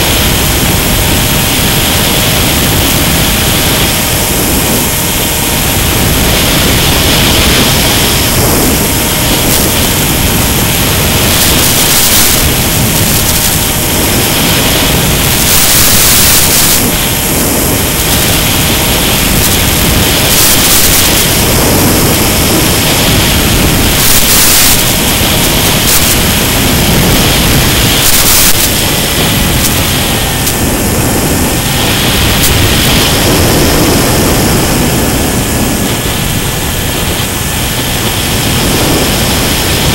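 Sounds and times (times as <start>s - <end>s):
bursts of static: 0.0s - 39.9s
faint electric motor whine: 0.0s - 39.9s
rush of wind and hiss: 0.0s - 39.9s.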